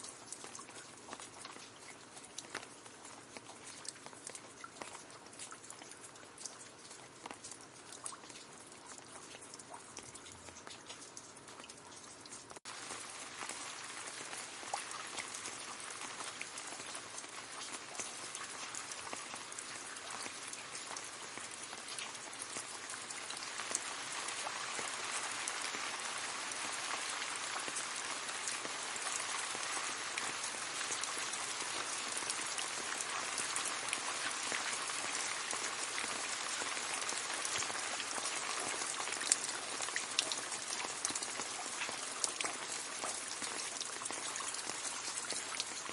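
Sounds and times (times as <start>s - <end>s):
gentle rain on leaves: 0.0s - 45.9s.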